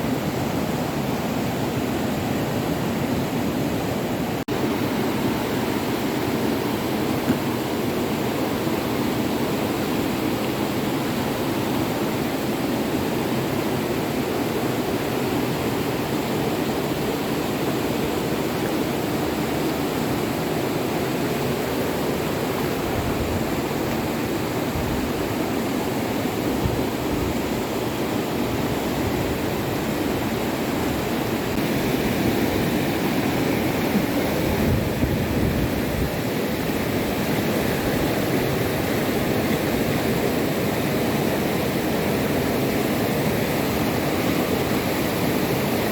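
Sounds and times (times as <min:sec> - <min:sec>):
flowing floodwater rushing: 0:00.0 - 0:45.9.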